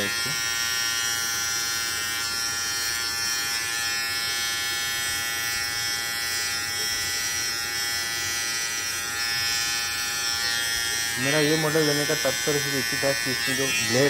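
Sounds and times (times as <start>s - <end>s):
beard trimmer buzzing: 0.0s - 14.0s.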